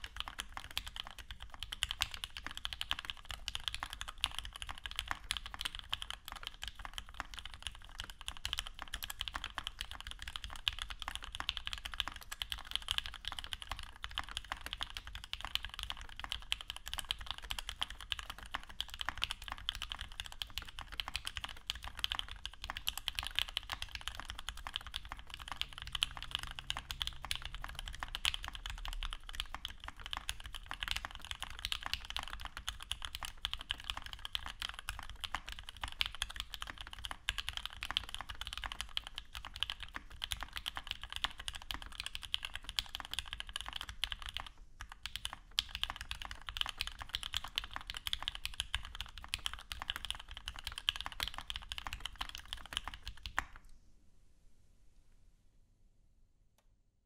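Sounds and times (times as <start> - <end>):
mechanical keyboard typing: 0.0 - 53.6.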